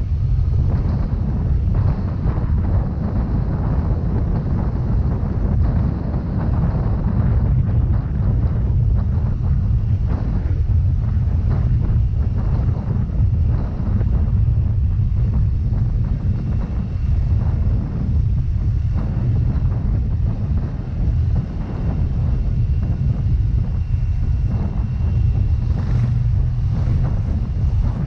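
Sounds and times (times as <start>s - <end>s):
scooter engine rumble: 0.0s - 28.0s
wind buffeting microphone: 0.0s - 28.0s.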